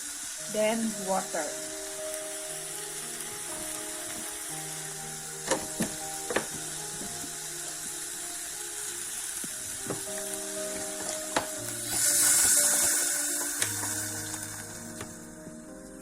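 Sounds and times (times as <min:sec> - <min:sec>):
loud hiss: 0:00.0 - 0:15.4
food sizzling in a pot: 0:00.0 - 0:16.0.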